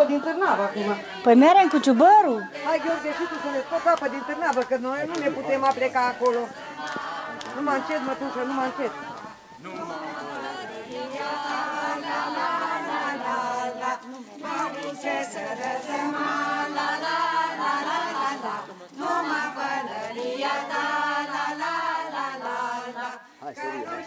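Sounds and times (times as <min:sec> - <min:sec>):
group singing unaccompanied: 0:00.0 - 0:24.0.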